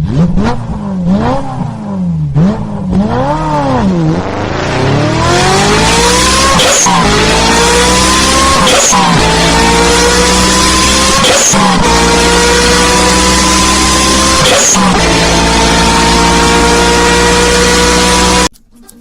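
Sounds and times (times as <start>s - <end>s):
engine revving and accelerating: 0.0s - 18.5s.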